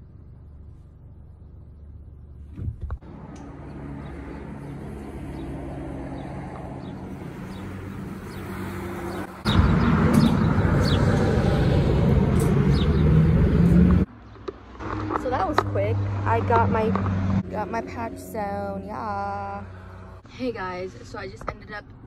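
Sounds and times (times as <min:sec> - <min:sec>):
traffic engine hum: 0:00.0 - 0:22.0
loud traffic rumble and rush: 0:02.2 - 0:22.0.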